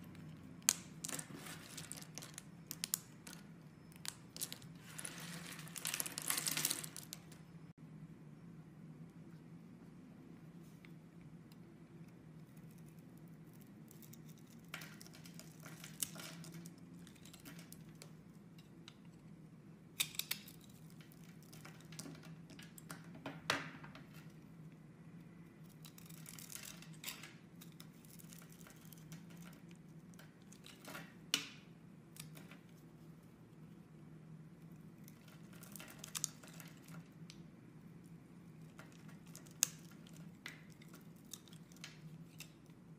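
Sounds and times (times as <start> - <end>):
faint low hum: 0.0 - 42.9.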